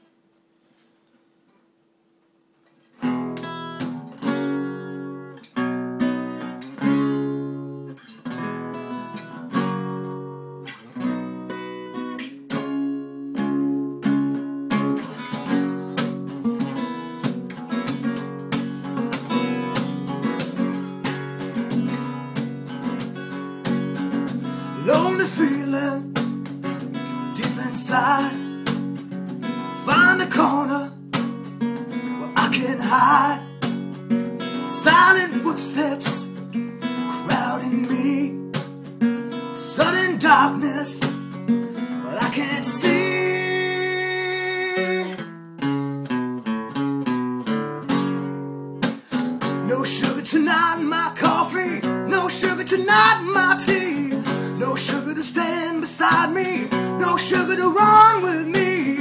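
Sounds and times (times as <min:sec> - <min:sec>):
acoustic guitar strumming chords: 0:03.0 - 0:59.0.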